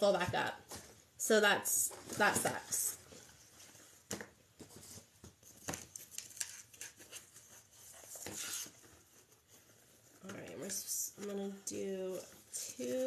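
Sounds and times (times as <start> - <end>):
ribbon rustling and crinkling: 1.8 - 13.0.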